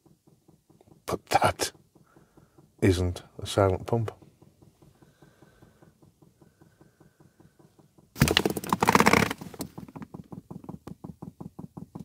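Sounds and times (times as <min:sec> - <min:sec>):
fuel pump ticking rapidly: 0:00.0 - 0:12.0.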